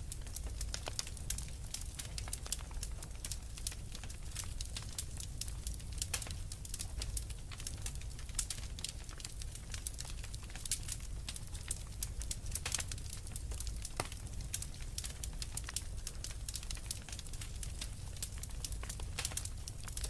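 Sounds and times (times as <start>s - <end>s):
low rumble of flames: 0.0s - 20.0s
wood fire popping and snapping: 0.0s - 20.0s.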